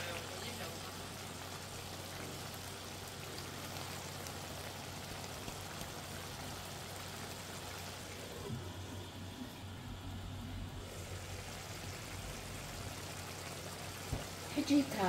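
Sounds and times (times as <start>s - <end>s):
low steady hum: 0.0s - 15.0s
sauce sizzling and bubbling: 0.0s - 15.0s.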